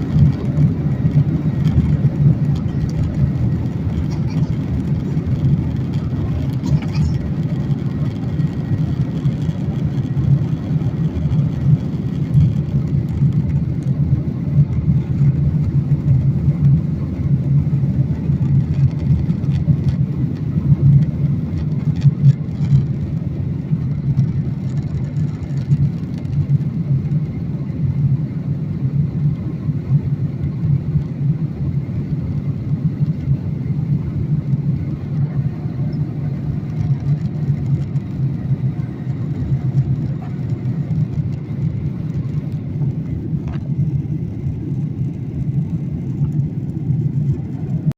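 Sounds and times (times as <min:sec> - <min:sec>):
jet engines low rumble: 0:00.0 - 0:47.9.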